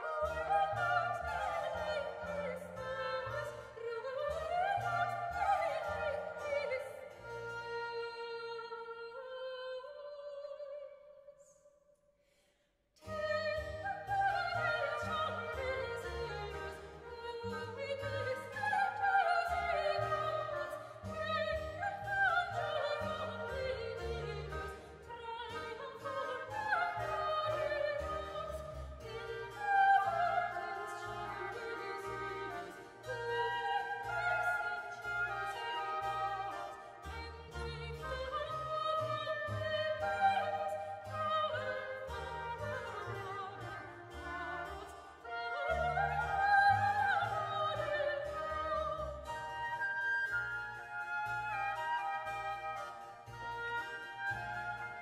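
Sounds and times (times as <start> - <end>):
double bass: 0.0 - 8.0, 13.0 - 55.0
flute: 0.0 - 10.6, 13.0 - 55.0
oboe: 0.0 - 11.0, 13.0 - 55.0
soprano singing: 0.0 - 11.5, 13.0 - 55.0.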